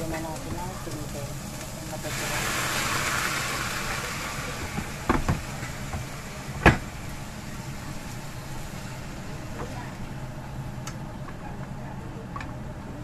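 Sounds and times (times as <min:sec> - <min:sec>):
asparagus sizzling in a pan: 0:00.0 - 0:10.8.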